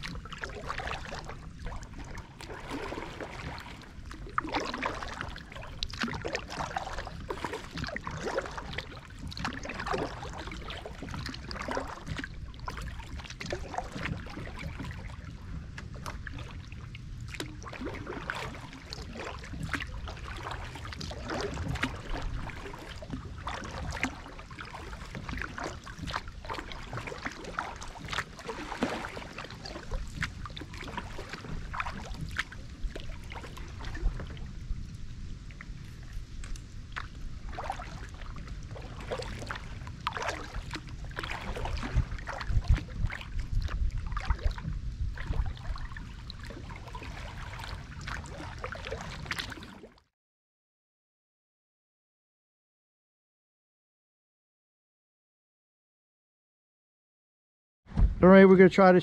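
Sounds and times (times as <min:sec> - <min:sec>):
paddles splashing in water: 0:00.0 - 0:50.0.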